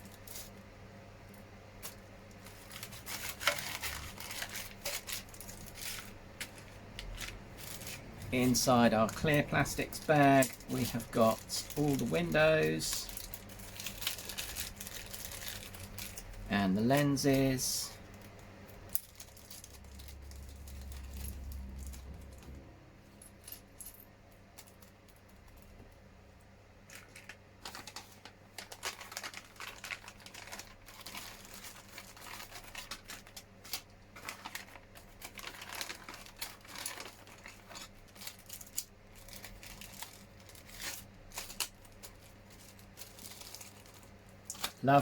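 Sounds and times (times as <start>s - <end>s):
plastic bag crinkling: 0.0s - 0.7s, 1.3s - 22.6s, 26.9s - 45.0s.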